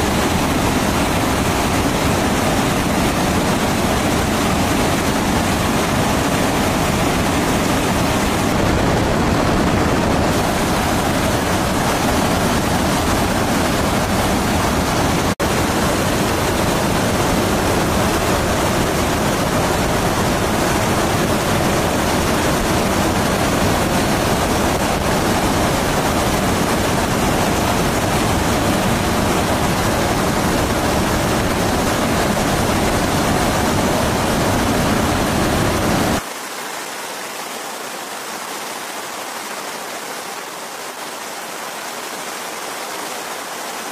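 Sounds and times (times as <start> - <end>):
jet aircraft roar: 0.0 - 36.2.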